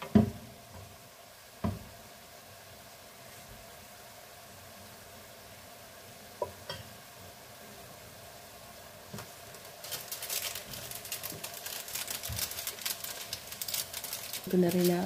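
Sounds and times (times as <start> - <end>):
stir-fry sizzling in a frying pan: 0.0 - 15.0.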